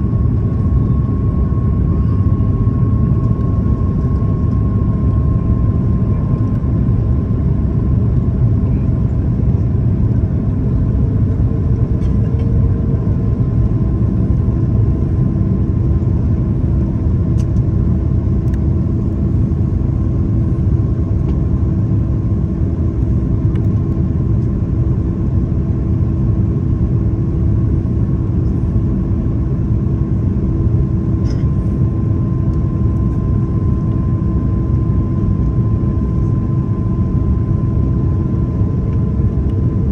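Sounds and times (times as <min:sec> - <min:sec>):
airliner engines and rushing air: 0:00.0 - 0:39.9.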